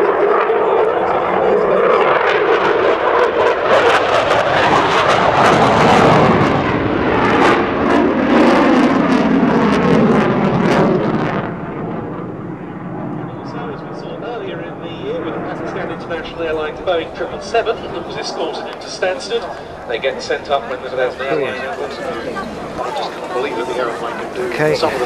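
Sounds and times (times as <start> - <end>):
jet engines passing with crackle: 0.0 - 25.0.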